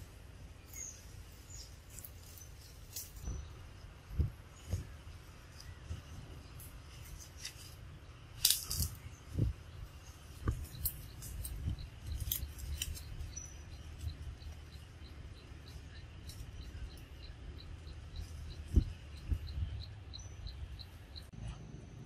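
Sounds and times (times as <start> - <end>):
leaves and twigs crackling: 0.0 - 19.5.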